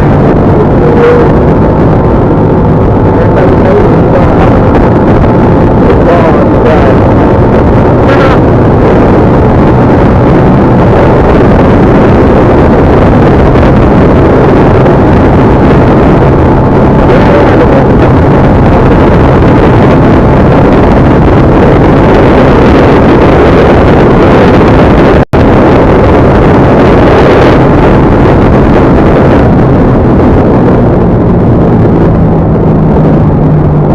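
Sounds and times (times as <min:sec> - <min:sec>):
vehicle engine running: 0:00.0 - 0:33.9
wind noise on microphone: 0:00.0 - 0:33.9.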